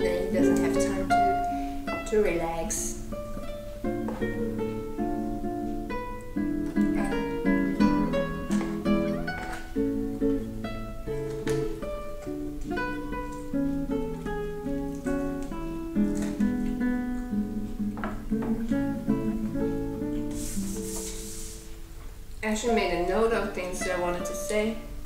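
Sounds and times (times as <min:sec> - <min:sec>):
acoustic guitar melody: 0:00.0 - 0:25.0.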